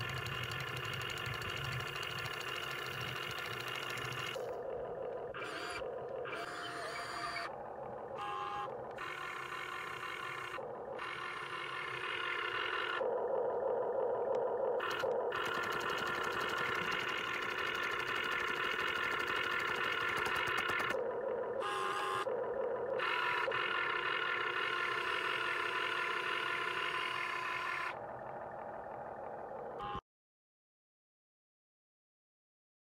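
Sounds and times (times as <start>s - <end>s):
small electric motors whining: 0.0s - 30.0s.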